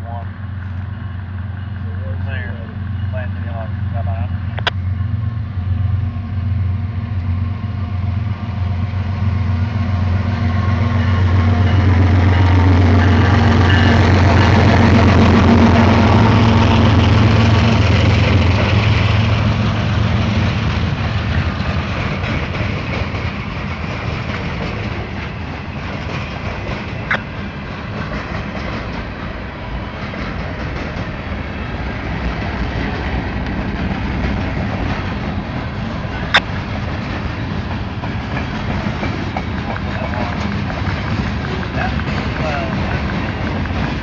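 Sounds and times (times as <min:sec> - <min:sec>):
freight cars rumbling on rails: 0:00.0 - 0:44.0
locomotive engine drone: 0:00.0 - 0:44.0.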